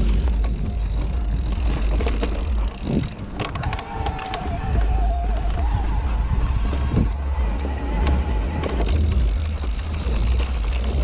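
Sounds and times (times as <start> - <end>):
bike rattling over rough ground: 0.0 - 11.0
wind rumble on microphone: 0.0 - 11.0.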